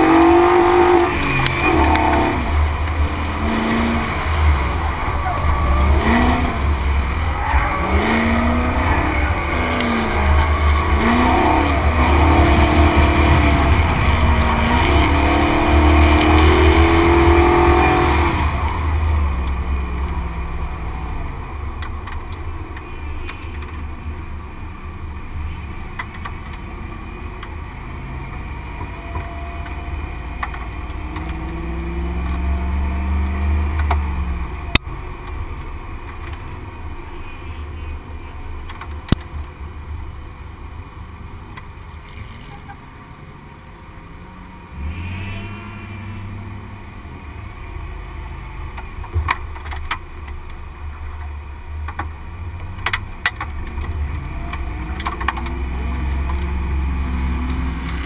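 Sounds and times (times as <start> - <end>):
car engine revving: 0.0 - 23.0, 23.6 - 37.3, 44.0 - 58.0.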